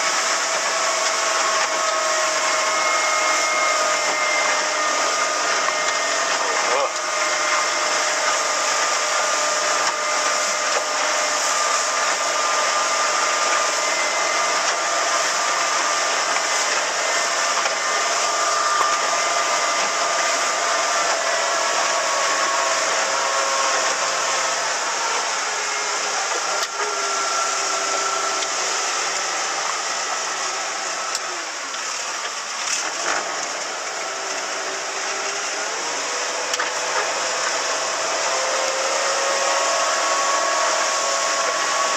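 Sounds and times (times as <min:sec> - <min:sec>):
motorboat engine whine: 0:00.0 - 0:41.9
wind and water rushing: 0:00.0 - 0:41.9.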